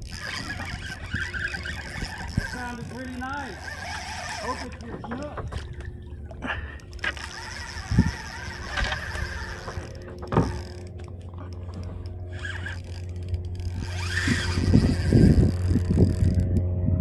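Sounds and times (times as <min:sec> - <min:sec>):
fishing reel clicking and whirring: 0:00.0 - 0:16.8.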